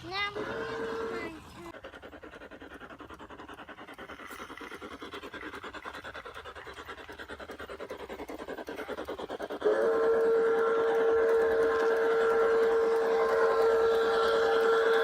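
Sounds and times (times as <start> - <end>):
model train clattering: 0.0 - 15.0.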